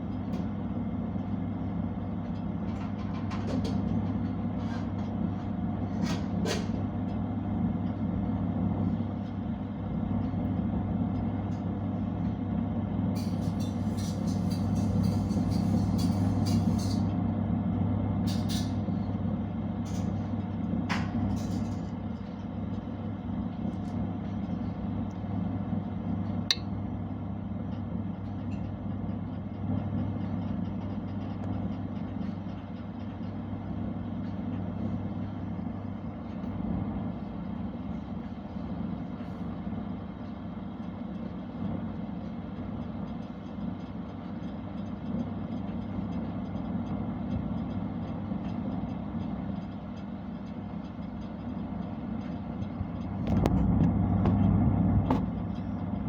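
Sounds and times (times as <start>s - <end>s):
oven humming and whirring: 0.0s - 56.0s.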